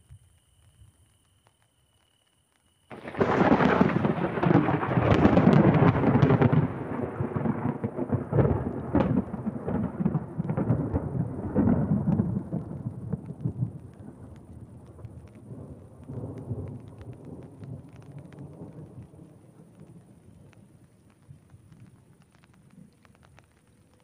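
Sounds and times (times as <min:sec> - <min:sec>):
thunderclap with rolling rumble: 0:02.9 - 0:23.5.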